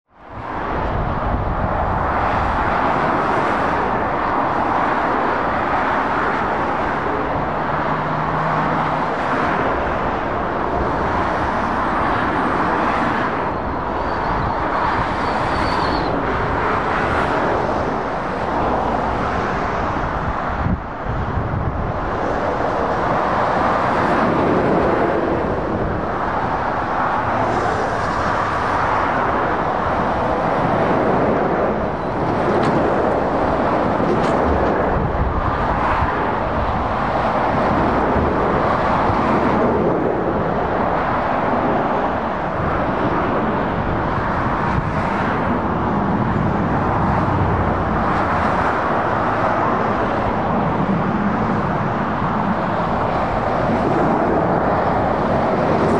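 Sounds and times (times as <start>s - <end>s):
motorway traffic roar: 0.0s - 55.9s.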